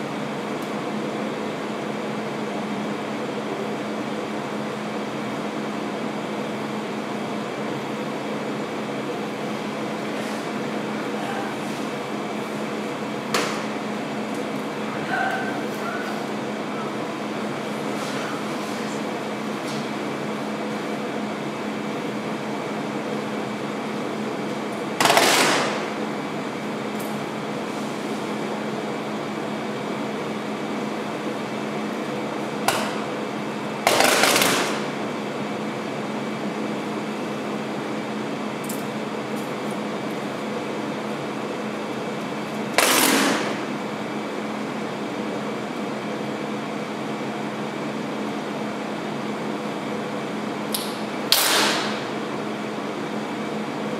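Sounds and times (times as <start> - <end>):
air conditioning hum: 0.0 - 53.9.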